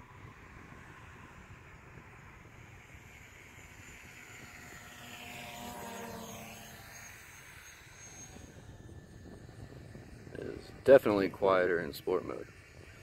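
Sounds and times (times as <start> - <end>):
drone propeller whine: 0.0 - 13.0.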